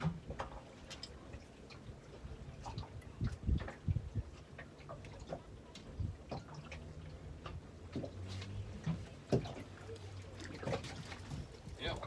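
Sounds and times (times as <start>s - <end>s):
water dripping and slapping: 0.0s - 12.0s.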